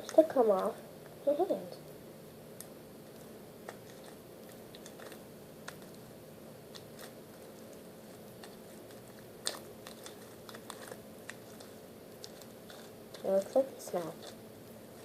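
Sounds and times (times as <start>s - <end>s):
faint steady hum: 0.0s - 15.0s
slime squishing: 2.6s - 15.0s.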